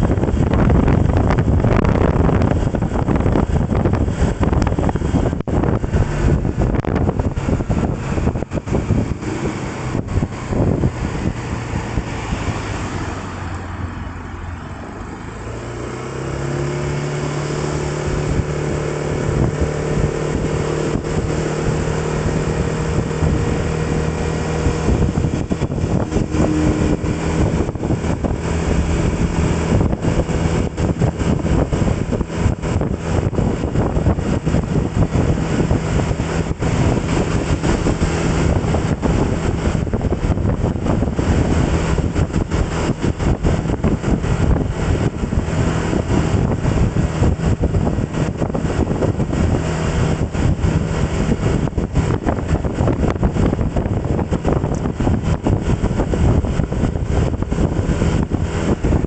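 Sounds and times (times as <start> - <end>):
road and wind noise: 0.0 - 59.0
vehicle engine accelerating: 0.0 - 59.0.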